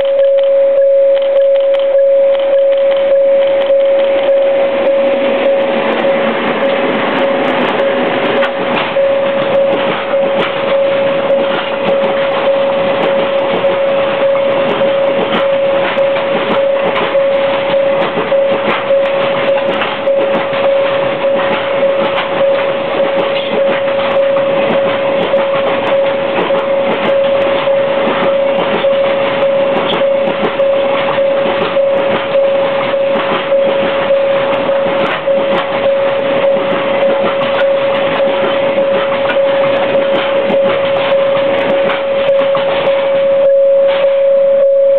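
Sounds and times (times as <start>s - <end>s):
steady tone: 0.0s - 44.9s
train wheels rumbling on rails: 0.0s - 44.9s
wheels knocking over rail joints: 2.5s - 44.2s.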